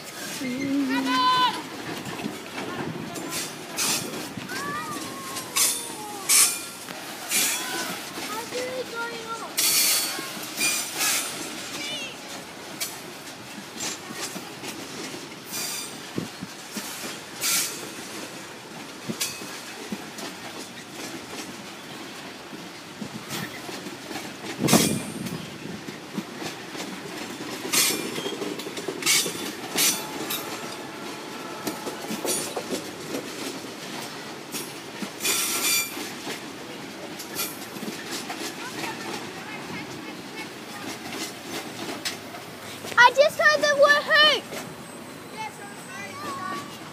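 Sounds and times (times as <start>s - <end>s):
train wagons rumbling: 0.0s - 46.9s.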